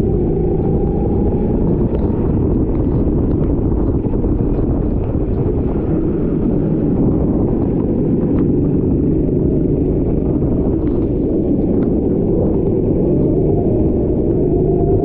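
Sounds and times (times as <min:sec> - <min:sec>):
racing kart engine running: 0:00.0 - 0:15.0.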